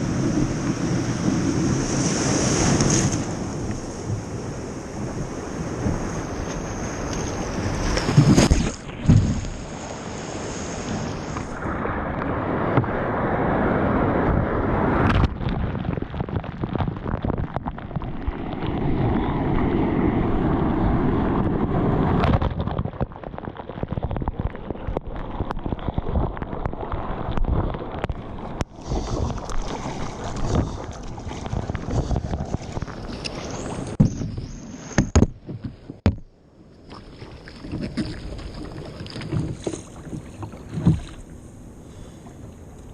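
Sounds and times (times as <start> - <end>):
wind buffeting microphone: 0.0 - 36.1
surf breaking: 0.0 - 36.2
water rushing around kayak: 0.0 - 42.9.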